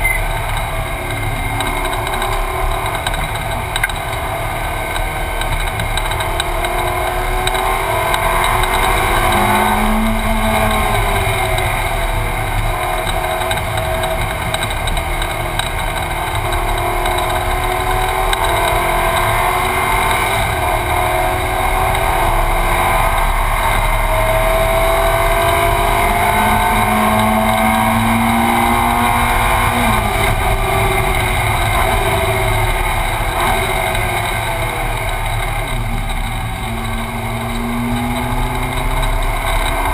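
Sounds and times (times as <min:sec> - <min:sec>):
race car engine from inside cabin: 0:00.0 - 0:39.9.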